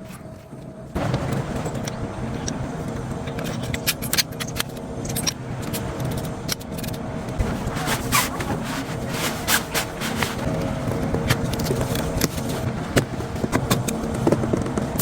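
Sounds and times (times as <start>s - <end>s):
steady low rumble: 0.5s - 14.9s.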